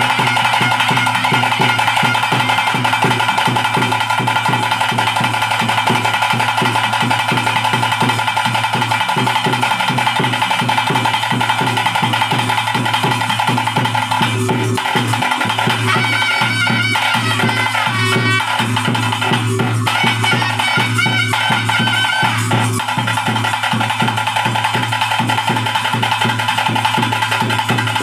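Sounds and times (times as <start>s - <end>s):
drum beaten in fast rhythm: 0.0s - 28.0s.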